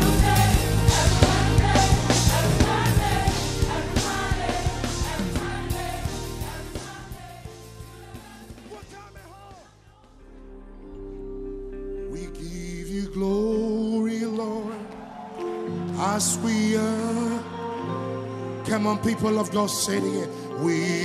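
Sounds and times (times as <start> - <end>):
voices singing: 0.0 - 10.3, 12.2 - 21.0
upbeat worship band: 0.0 - 11.2, 12.0 - 21.0.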